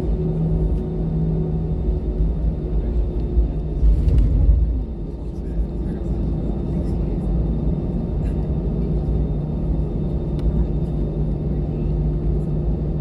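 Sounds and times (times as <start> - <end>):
constant hum: 0.0 - 13.0
jet engine and airflow rumble: 0.0 - 13.0.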